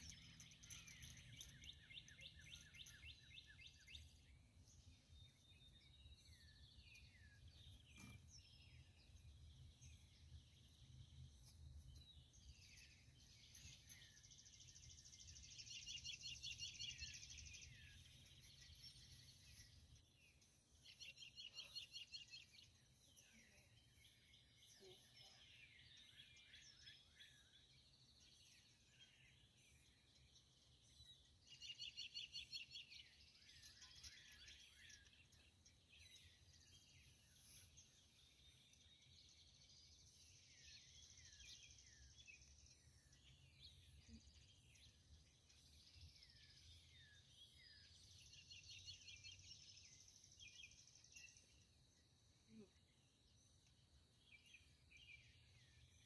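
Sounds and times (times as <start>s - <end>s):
birds singing trilled songs: 0.0s - 56.0s
soft bird chirps: 0.0s - 56.0s.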